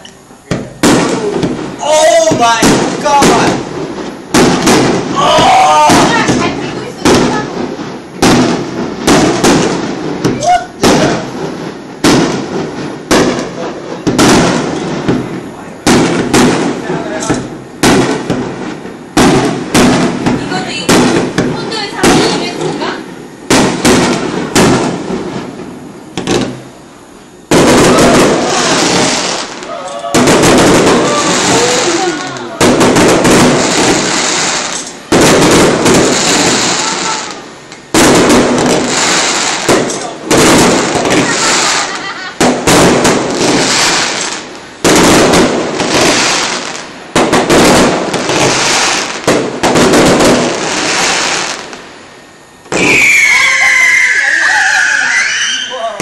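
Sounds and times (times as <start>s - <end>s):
firework shells bursting: 0.0s - 56.0s.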